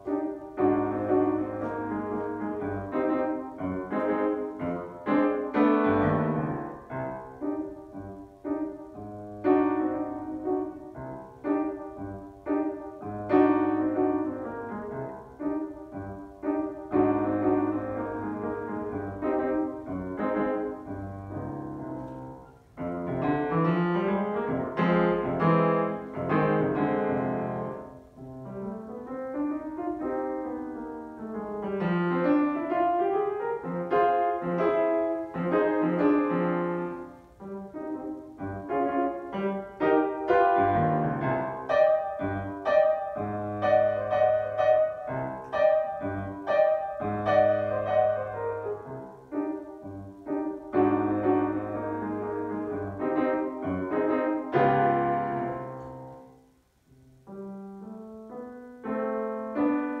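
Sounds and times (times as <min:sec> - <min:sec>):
grand piano playing: 0:00.0 - 1:00.0.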